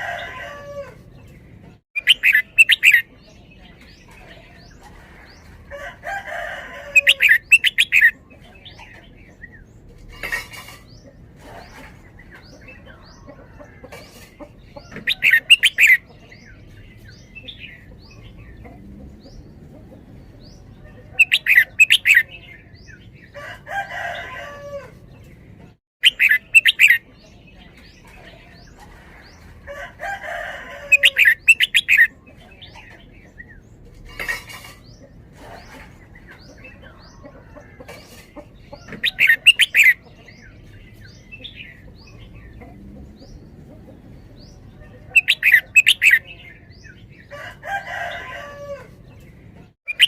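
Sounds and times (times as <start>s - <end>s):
bird song phrases: 0.0s - 50.0s.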